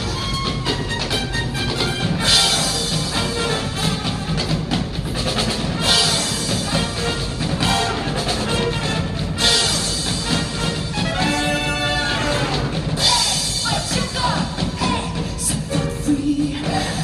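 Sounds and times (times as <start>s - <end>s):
band music with drums and brass: 0.0s - 17.0s.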